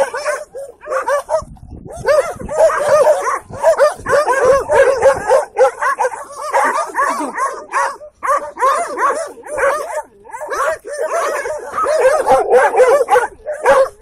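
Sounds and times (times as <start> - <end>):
dogs barking and yelping: 0.0 - 14.0.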